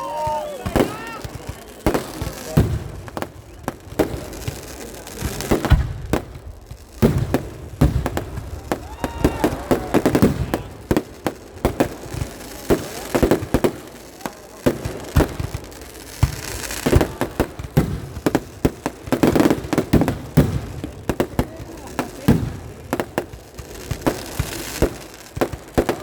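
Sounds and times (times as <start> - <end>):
fireworks bangs: 0.0 - 26.0
fireworks hissing crackle: 0.0 - 26.0.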